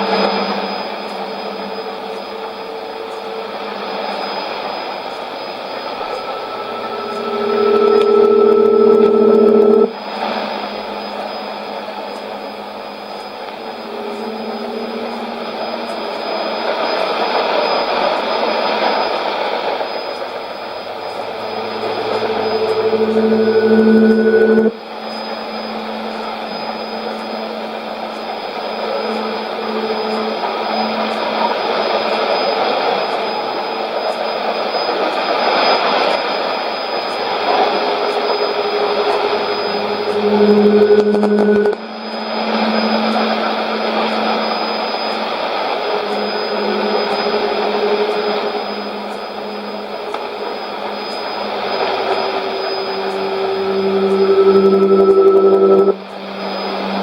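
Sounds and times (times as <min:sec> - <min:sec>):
higher steady tones: 0:00.0 - 0:57.0
low steady tone: 0:00.0 - 0:57.0
radio rushing noise: 0:01.7 - 0:34.1, 0:35.6 - 0:57.0.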